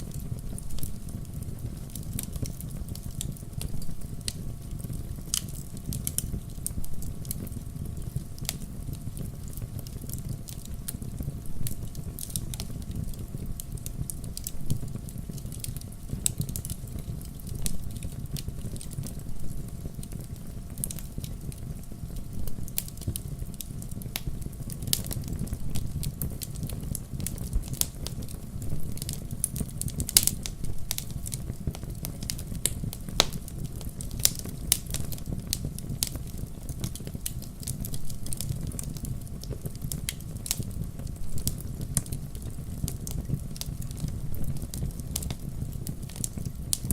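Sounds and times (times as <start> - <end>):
burning logs rumbling: 0.0 - 46.9
firewood popping and snapping: 0.1 - 21.6, 22.2 - 46.9.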